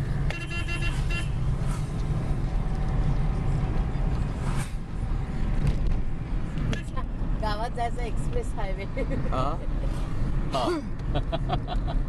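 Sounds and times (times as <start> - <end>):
car engine rumble: 0.0 - 12.0
tyres on road: 0.0 - 12.0.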